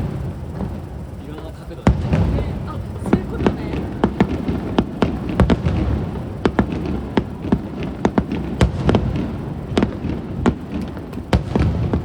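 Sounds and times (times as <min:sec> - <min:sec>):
fireworks bangs: 0:00.0 - 0:12.0
low rumble of echoing bursts: 0:00.0 - 0:12.0.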